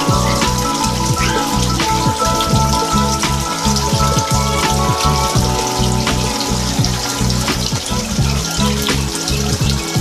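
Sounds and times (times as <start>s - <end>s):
music with stepping bass line: 0.0s - 10.0s.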